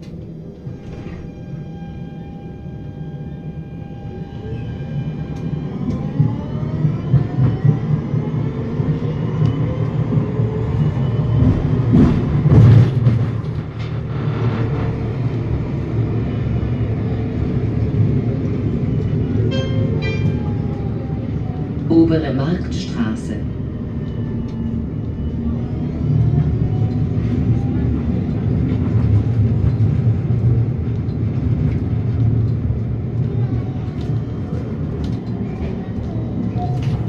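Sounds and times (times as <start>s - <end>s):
tram motor whine: 0.0s - 37.0s
wheels rumbling on rail: 0.0s - 37.0s.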